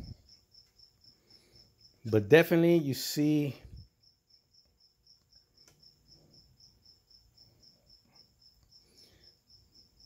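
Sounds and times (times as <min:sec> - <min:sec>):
cricket chirping: 0:00.0 - 0:10.0.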